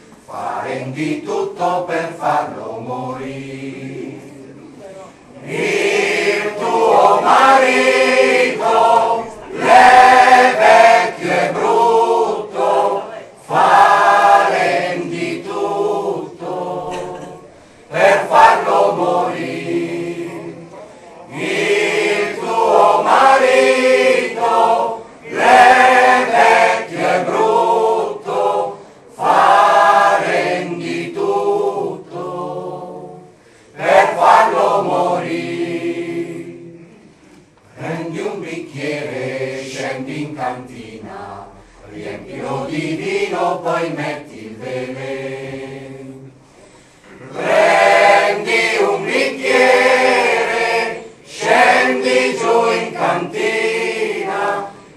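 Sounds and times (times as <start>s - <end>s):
mixed choir singing unaccompanied: 0.0s - 4.6s, 5.3s - 54.9s.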